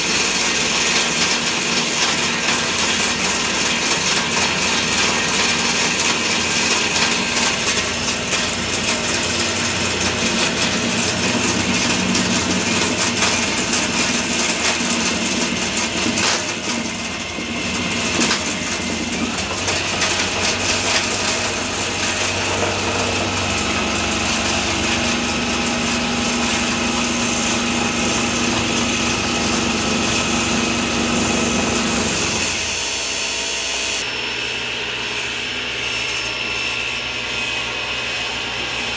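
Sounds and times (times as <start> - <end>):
table saw cutting wood: 0.0 - 38.9.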